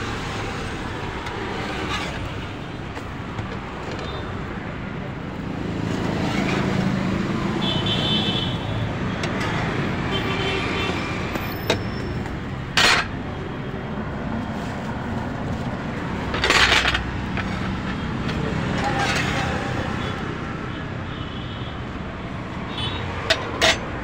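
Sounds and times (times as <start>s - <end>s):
road traffic hum: 0.0s - 24.0s.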